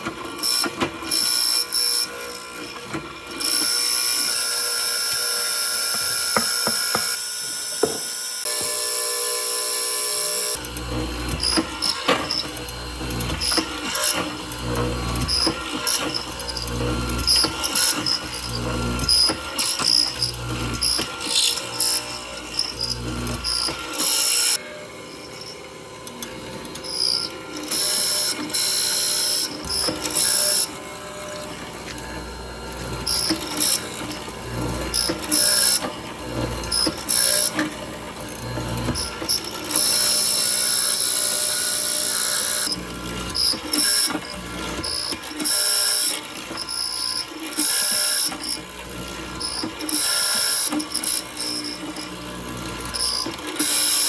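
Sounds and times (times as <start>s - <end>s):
handheld power tool running: 0.0s - 54.0s.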